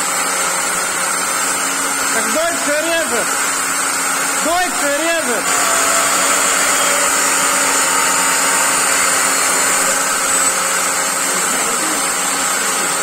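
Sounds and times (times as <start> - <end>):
angle grinder cutting metal: 0.0 - 13.0.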